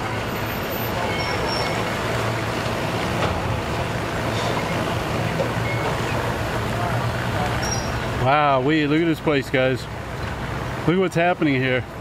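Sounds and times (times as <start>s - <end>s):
engines idling: 0.0s - 12.0s.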